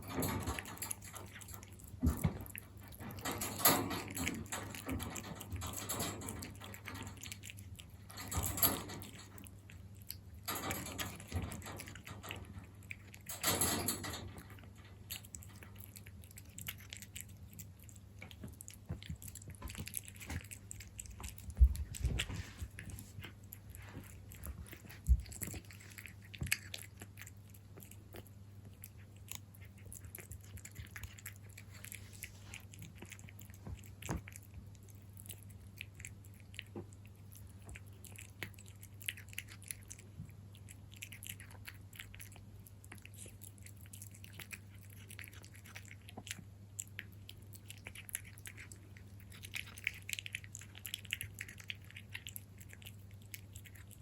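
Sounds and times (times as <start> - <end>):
cat chewing food: 0.0 - 13.5, 14.2 - 54.0.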